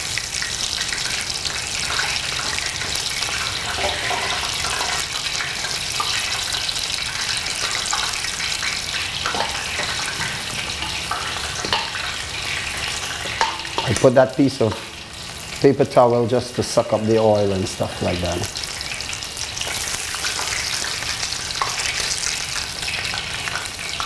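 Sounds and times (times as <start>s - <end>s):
hot oil sizzling: 0.0s - 24.0s.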